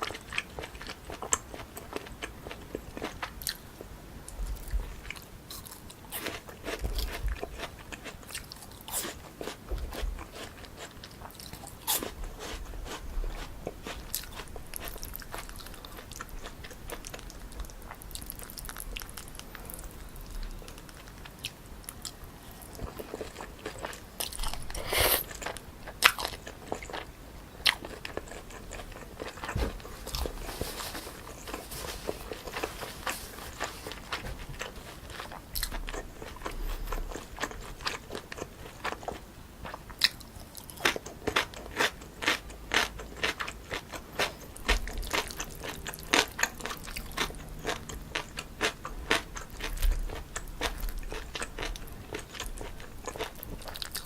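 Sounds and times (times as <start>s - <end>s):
crunching bites and chewing: 4.5s - 54.0s.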